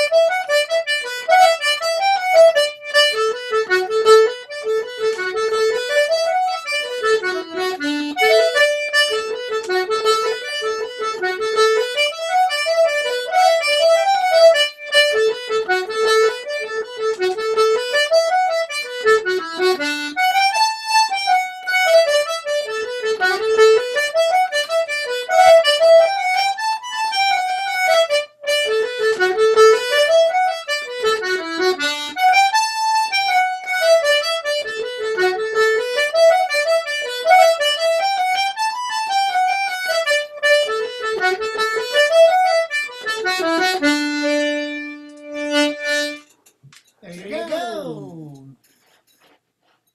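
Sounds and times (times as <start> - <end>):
button accordions playing a fast reel: 0.0 - 46.2.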